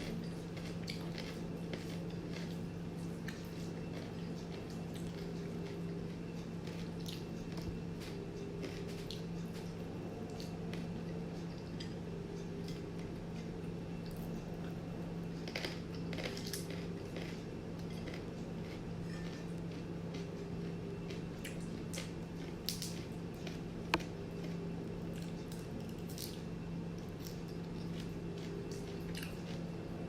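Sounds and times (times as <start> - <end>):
wet chewing and mouth noises: 0.0 - 29.8
steady low hum: 0.0 - 30.0.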